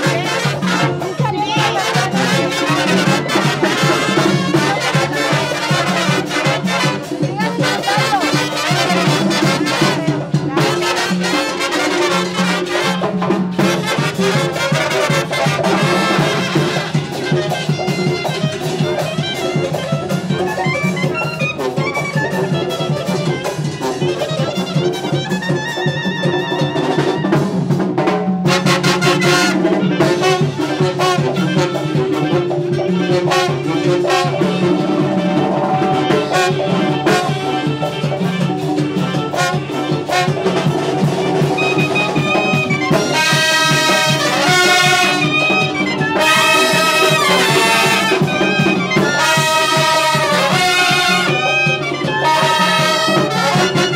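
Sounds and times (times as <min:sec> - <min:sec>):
brass band music: 0:00.0 - 0:53.9.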